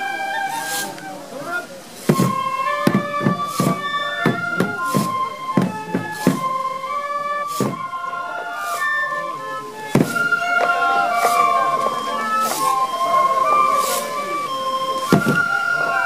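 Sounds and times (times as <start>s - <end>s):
bamboo flutes playing melody: 0.0s - 16.0s
drum strikes: 2.0s - 9.2s, 9.8s - 16.0s.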